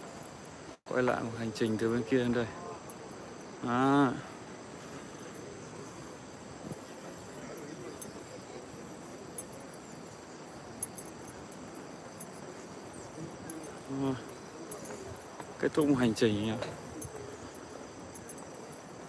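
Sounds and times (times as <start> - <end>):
insects chirring: 0.0 - 19.0
low outdoor background hiss: 0.0 - 19.0.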